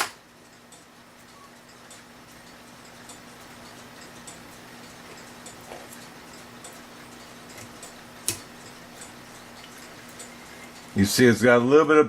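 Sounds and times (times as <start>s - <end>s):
faint steady hum: 0.0s - 12.0s
mechanical clock ticking: 0.2s - 11.8s.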